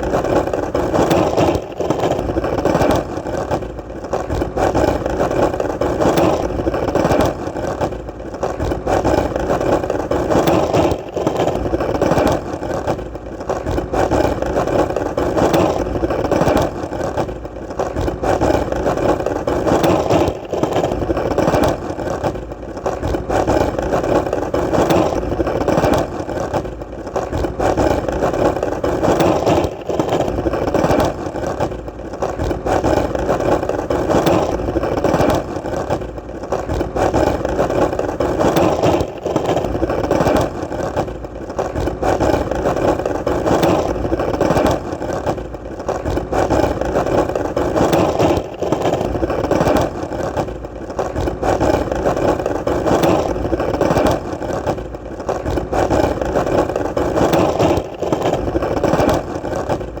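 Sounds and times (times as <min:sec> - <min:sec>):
skateboard wheels rolling: 0:00.0 - 1:00.0.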